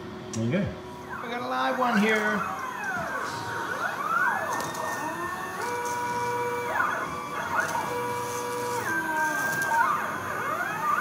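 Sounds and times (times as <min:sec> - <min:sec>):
stepper motor whine: 0:01.9 - 0:11.0.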